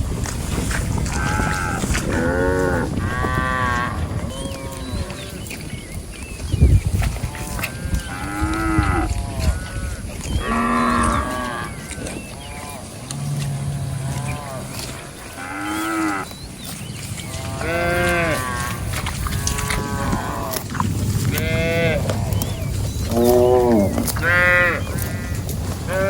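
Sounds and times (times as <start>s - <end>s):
cattle mooing: 1.1s - 5.4s, 7.3s - 16.3s, 17.2s - 20.7s, 21.3s - 26.0s.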